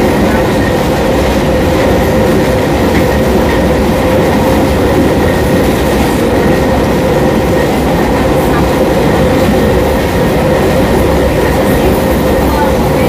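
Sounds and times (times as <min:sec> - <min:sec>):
train motor whine: 0:00.0 - 0:13.0
wheel and rail rumble: 0:00.0 - 0:13.0.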